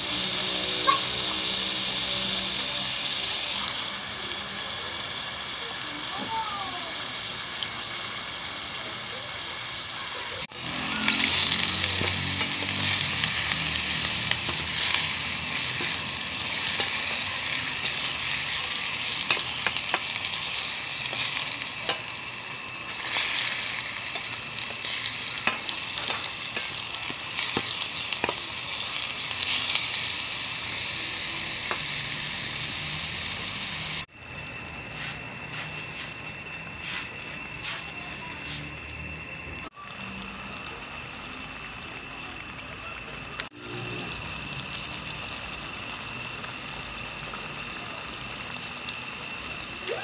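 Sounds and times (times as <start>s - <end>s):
meat sizzling in a pot: 0.0s - 50.0s.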